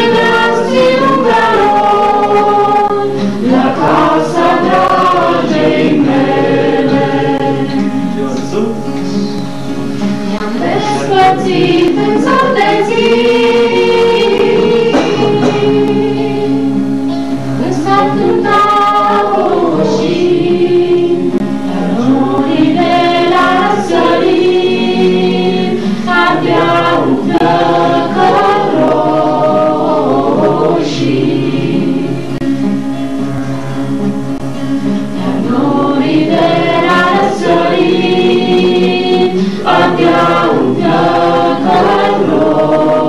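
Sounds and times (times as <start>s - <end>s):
group singing together: 0.0s - 32.9s, 33.8s - 43.0s
acoustic guitar: 0.0s - 43.0s.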